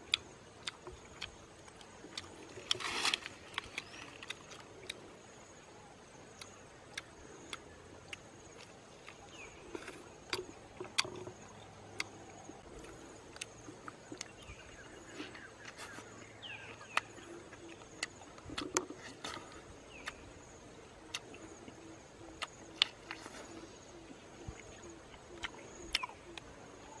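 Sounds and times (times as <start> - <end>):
chewing and lip-smacking: 0.1 - 5.0, 6.3 - 20.2, 21.0 - 21.8, 22.4 - 23.6, 24.5 - 26.5.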